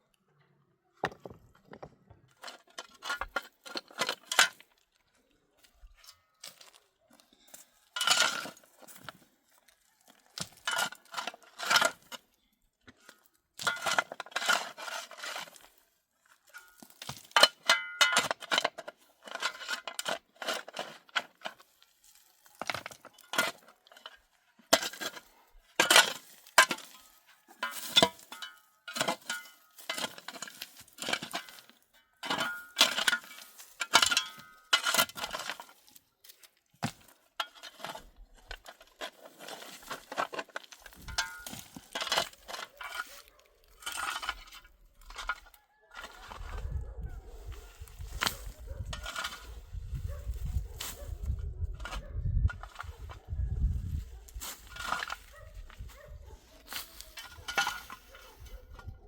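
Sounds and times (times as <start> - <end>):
hard objects clinking and clattering: 1.0 - 4.9, 12.9 - 53.3, 54.3 - 59.0.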